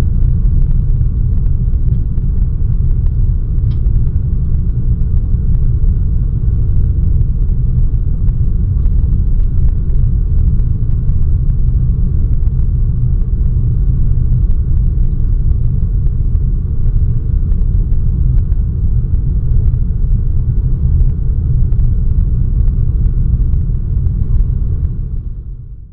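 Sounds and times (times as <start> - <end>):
airliner cabin rumble: 0.0 - 25.9.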